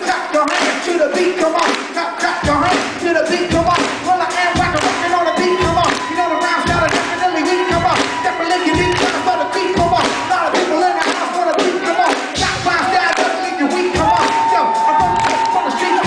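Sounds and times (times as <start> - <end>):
deep bass beat: 0.0 - 16.0
melodic hip-hop music: 0.0 - 16.0.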